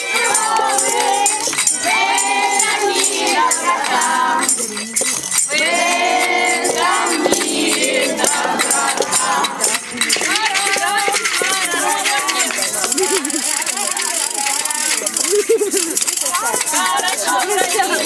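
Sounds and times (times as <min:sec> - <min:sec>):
children and adults singing: 0:00.0 - 0:15.0, 0:16.6 - 0:18.0
rattling percussion: 0:00.0 - 0:18.0.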